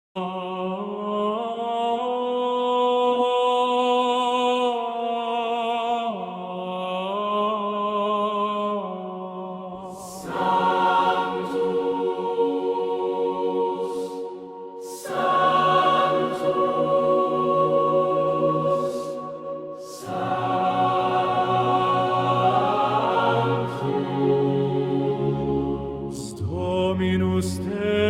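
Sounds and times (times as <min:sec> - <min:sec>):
choir singing long-held chords: 0:00.2 - 0:28.0.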